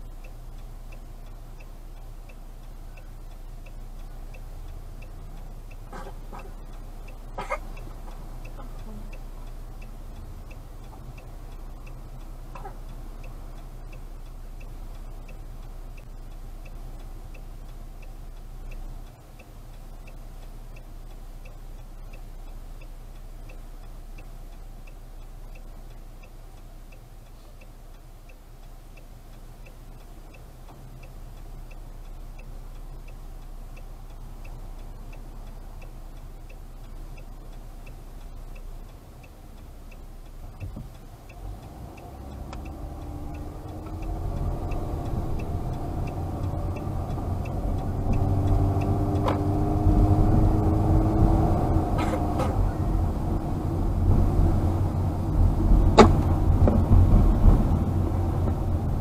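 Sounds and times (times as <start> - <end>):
car engine idling: 0.0 - 59.0
turn signal relay ticking: 0.0 - 59.0.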